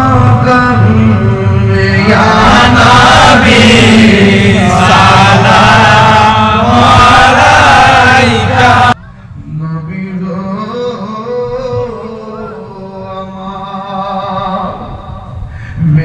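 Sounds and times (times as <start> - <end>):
men chanting over loudspeakers: 0.0 - 9.0, 9.6 - 15.3.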